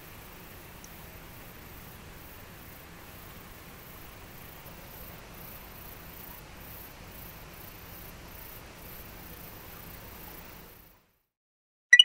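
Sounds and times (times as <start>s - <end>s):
faint steady hiss: 0.0s - 11.1s.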